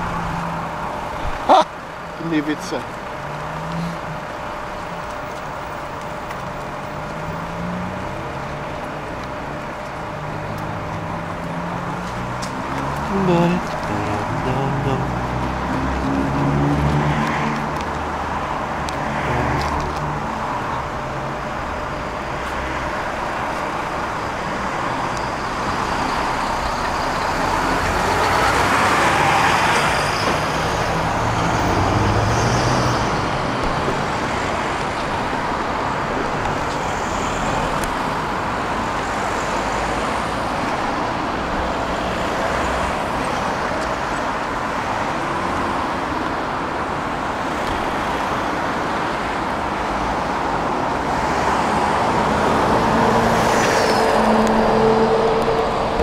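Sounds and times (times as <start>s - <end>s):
cars driving past: 0.0s - 56.0s.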